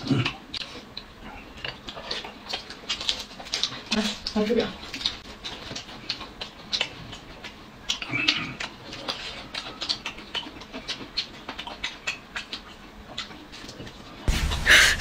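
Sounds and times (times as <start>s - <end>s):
chewing and lip-smacking: 0.0s - 14.3s.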